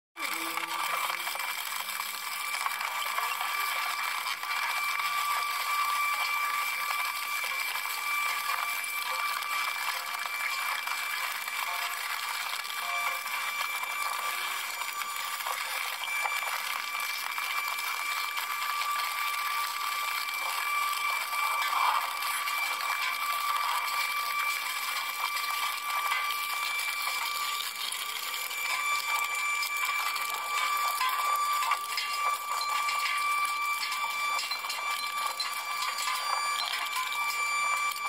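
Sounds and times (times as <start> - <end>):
shredder high whine: 0.2 - 38.0.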